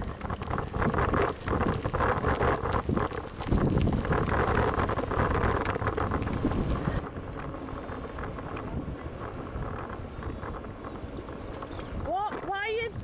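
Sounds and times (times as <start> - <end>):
bicycle tyres rolling: 0.0 - 13.0
wind buffeting microphone: 0.0 - 13.0.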